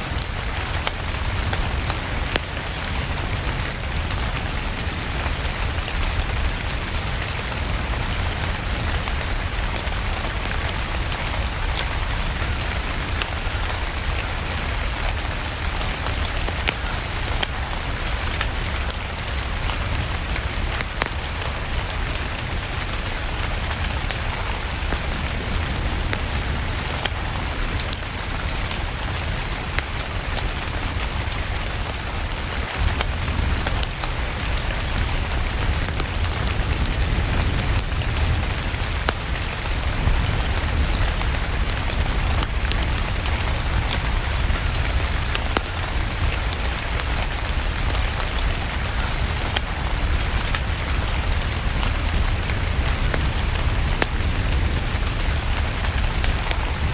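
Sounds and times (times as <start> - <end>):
steady rain: 0.0 - 56.9
wood fire crackling: 0.0 - 56.9.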